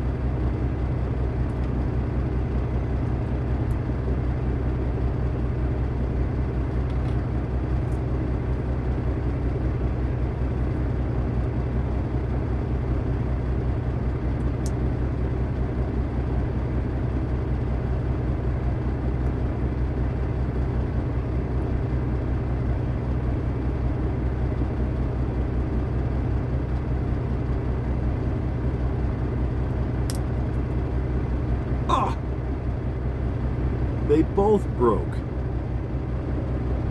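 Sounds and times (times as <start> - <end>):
diesel engine droning: 0.0 - 36.9.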